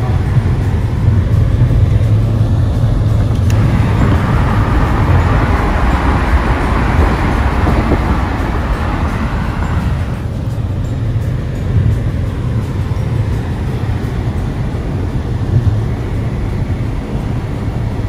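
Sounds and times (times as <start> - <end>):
car road and engine drone: 0.0 - 18.0
hiss: 0.0 - 18.0.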